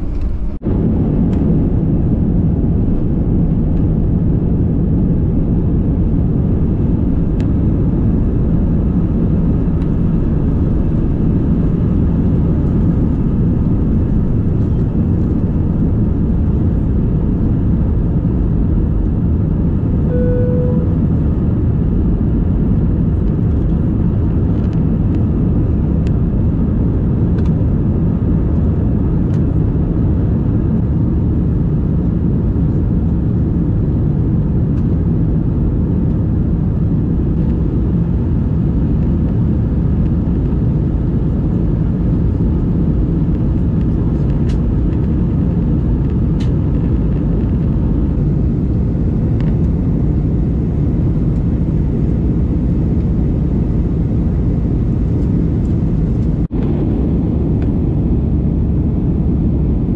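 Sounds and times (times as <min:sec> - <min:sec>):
vehicle rumbling: 0:00.0 - 0:59.9.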